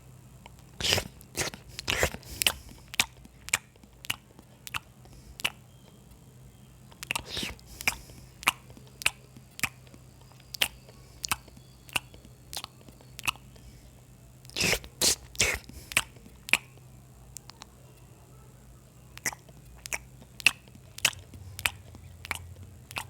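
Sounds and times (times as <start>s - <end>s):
faint low hum: 0.0s - 23.0s
wet mouth chewing smacks: 0.4s - 5.6s, 6.9s - 17.7s, 19.2s - 23.0s
crunchy bites: 0.5s - 6.0s, 6.9s - 13.8s, 14.4s - 17.6s, 19.2s - 23.0s.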